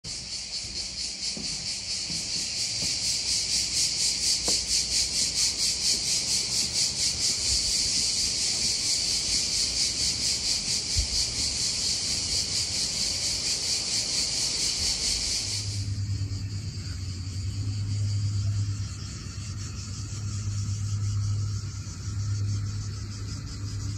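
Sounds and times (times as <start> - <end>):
cicadas buzzing in chorus: 0.0 - 23.9.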